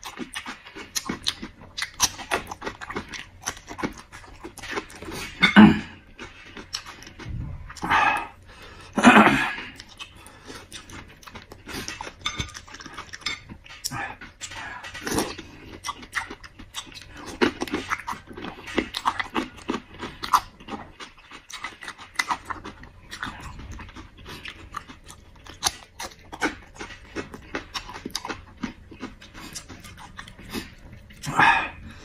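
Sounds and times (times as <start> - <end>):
man chewing and smacking: 0.0 - 32.0.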